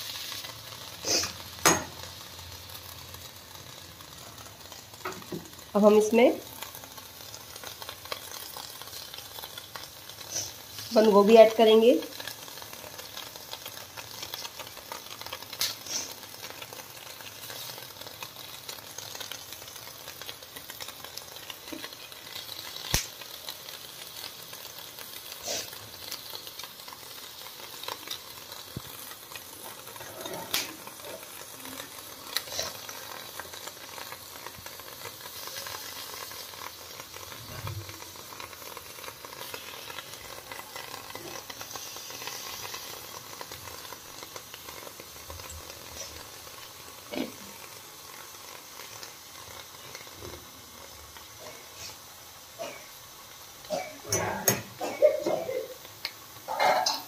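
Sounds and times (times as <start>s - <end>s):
leaves sizzling on hot plate: 0.0s - 57.0s.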